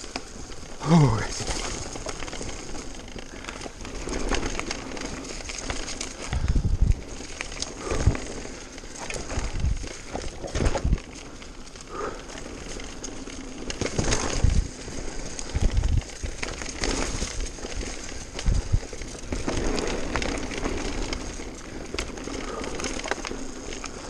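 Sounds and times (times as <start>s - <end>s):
bike rattling: 0.0s - 24.0s
tyres crackling over leaves: 0.0s - 24.0s.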